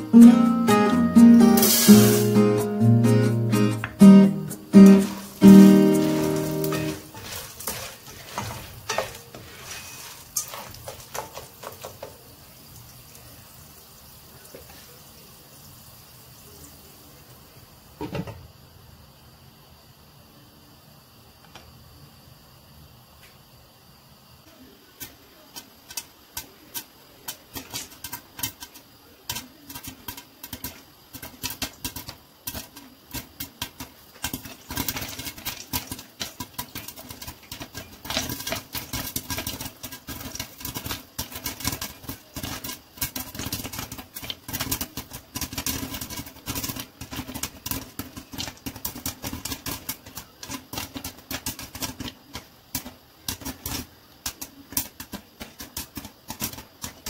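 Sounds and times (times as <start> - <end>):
corn kernels popping in pan: 0.0 - 15.3, 24.4 - 57.0.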